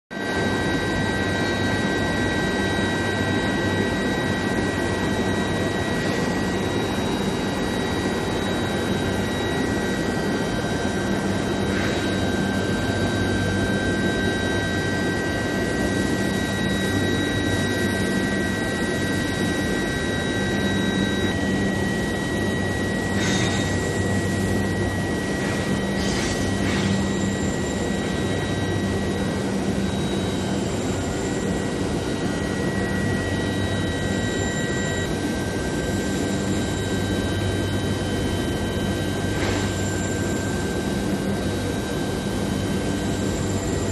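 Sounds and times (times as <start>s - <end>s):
loud machinery noise: 0.1s - 43.9s
high whining tones: 2.8s - 43.9s.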